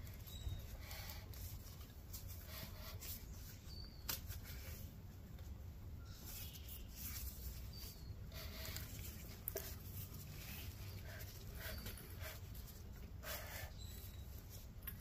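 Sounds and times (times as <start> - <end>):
hands rustling and scraping: 0.0 - 15.0
low steady hum: 0.0 - 15.0.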